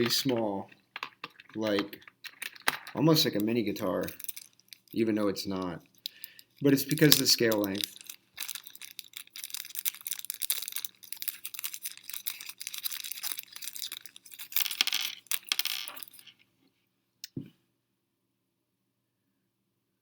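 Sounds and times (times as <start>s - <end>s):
small hard parts clicking and scraping: 0.0s - 16.5s.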